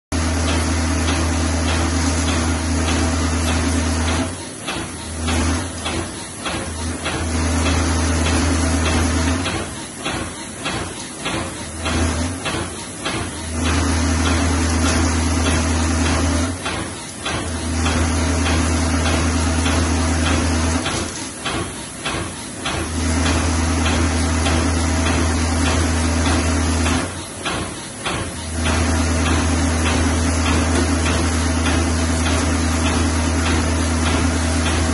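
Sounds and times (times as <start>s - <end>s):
vibratory feeder humming: 0.2s - 34.9s.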